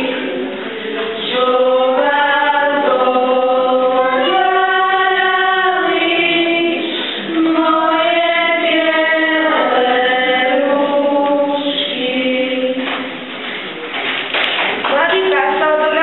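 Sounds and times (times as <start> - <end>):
girls' choir singing: 0.0 - 13.5.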